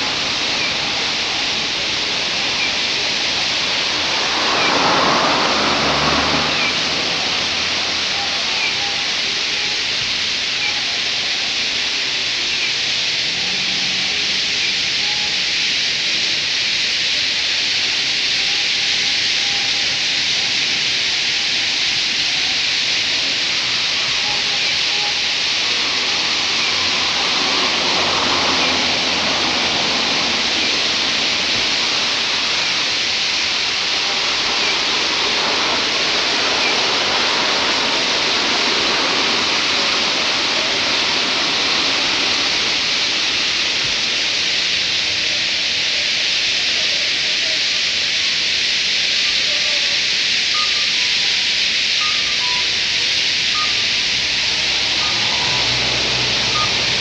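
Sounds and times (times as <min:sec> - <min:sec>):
starling flock chattering: 0:00.0 - 0:05.7, 0:06.4 - 0:57.0.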